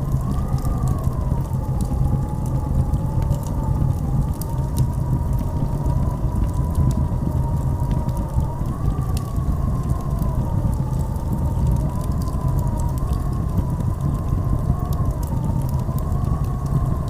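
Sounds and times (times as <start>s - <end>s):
blizzard wind howling: 0.0s - 17.0s.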